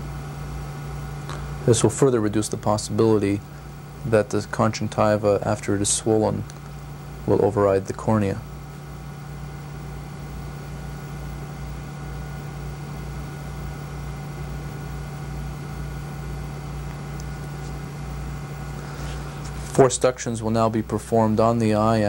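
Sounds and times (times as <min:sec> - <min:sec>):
machine hum with pulsing throb: 0:00.0 - 0:22.0.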